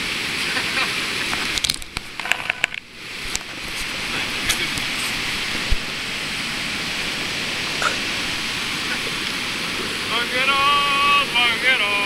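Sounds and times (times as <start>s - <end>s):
water rushing over weir: 0.0s - 12.0s.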